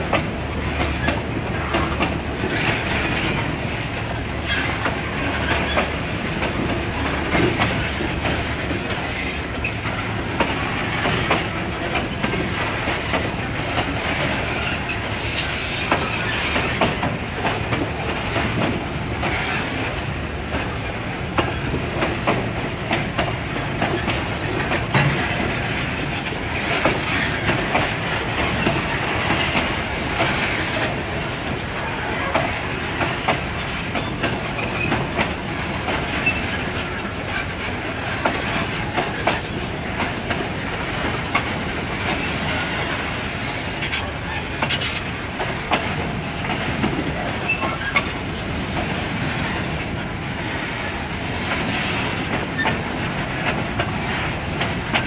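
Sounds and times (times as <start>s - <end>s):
steel wheels on rail: 0.0s - 55.0s.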